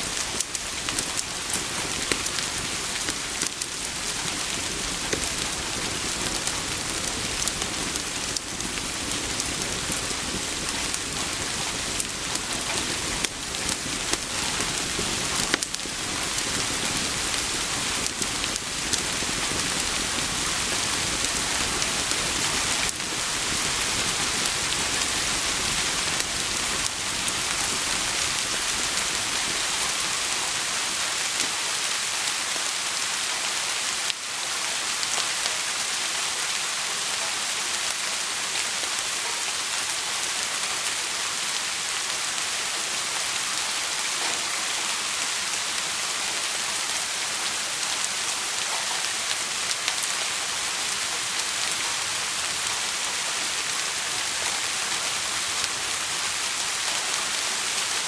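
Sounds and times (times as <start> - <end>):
raindrops ticking close by: 0.0 - 32.5, 35.0 - 58.0
heavy rain: 0.0 - 58.0.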